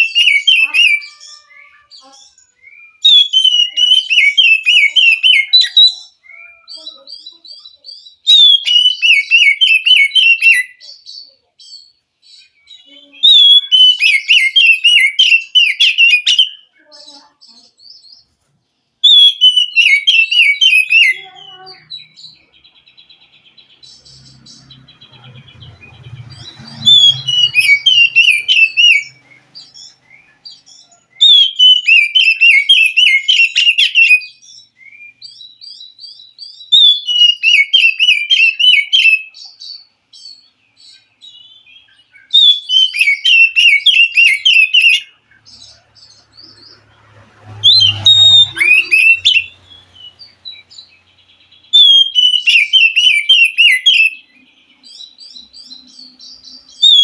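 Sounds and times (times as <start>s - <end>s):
bird singing warbled phrases: 0.0s - 57.0s.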